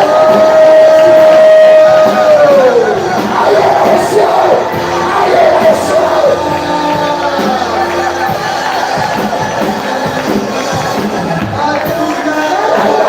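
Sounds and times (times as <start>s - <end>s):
congregation shouting in praise: 0.0s - 13.0s
music: 0.0s - 13.0s.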